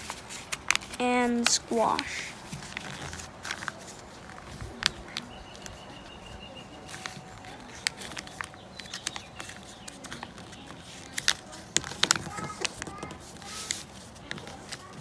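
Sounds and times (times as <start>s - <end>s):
paper crinkling: 0.0s - 15.0s.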